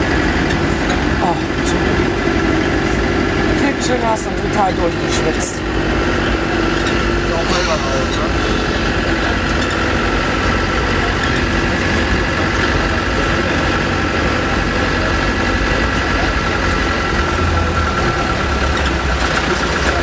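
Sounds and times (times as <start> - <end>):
steady engine whine: 0.0 - 20.0
vehicle engine rumbling: 0.0 - 20.0.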